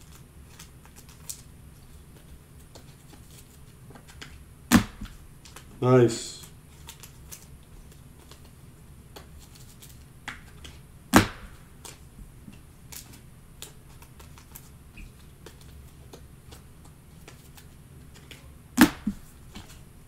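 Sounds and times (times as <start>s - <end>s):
trading cards being handled: 0.0s - 4.4s, 6.4s - 8.6s, 9.2s - 19.9s.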